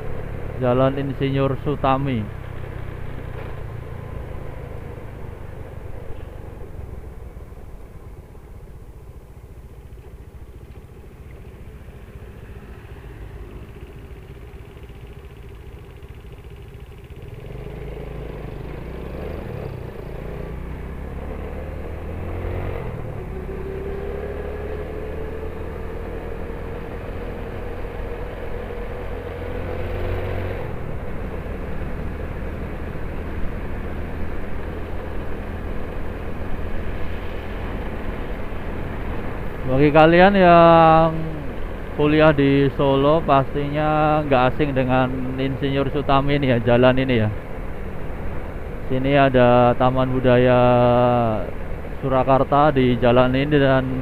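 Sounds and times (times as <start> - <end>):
motorcycle engine accelerating: 0.0 - 54.0
road and wind rush: 0.0 - 54.0.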